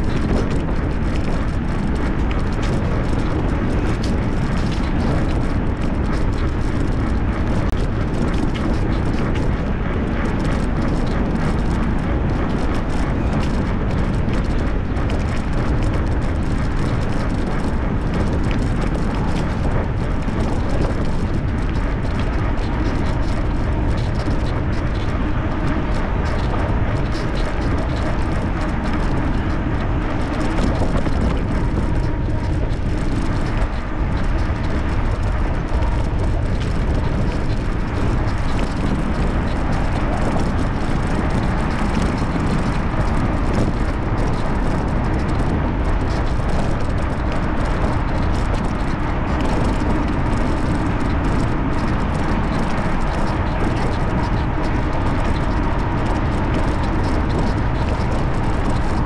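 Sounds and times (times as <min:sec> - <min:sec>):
bicycle rolling noise: 0:00.0 - 0:59.0
wind rushing over microphone: 0:00.0 - 0:59.0.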